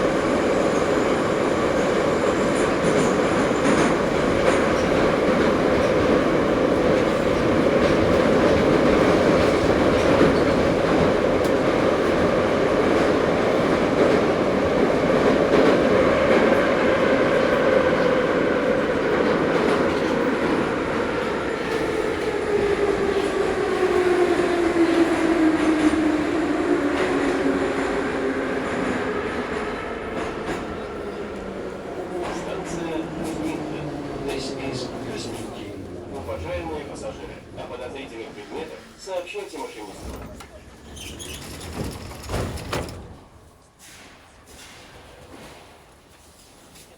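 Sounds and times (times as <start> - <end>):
metro train rolling in tunnel: 0.0 - 46.9.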